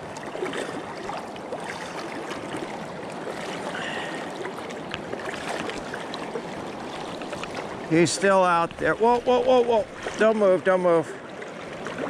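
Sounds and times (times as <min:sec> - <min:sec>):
river current gurgling: 0:00.0 - 0:12.0
small water splashes: 0:00.0 - 0:12.0.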